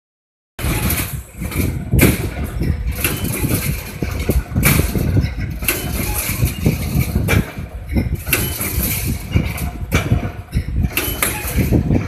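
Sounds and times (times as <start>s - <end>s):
machine low mechanical hum: 0.6s - 12.0s
machine sharp clanks: 0.6s - 12.0s.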